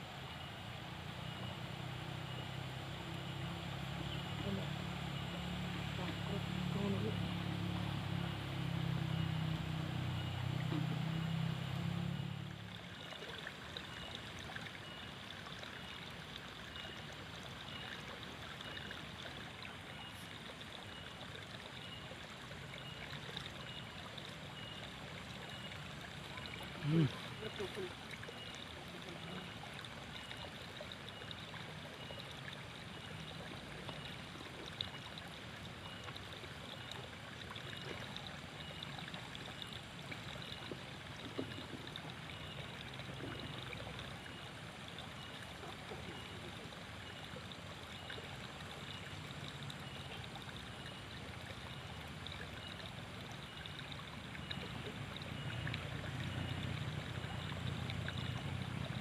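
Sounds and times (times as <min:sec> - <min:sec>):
water flowing in a ditch: 0:00.0 - 0:59.0.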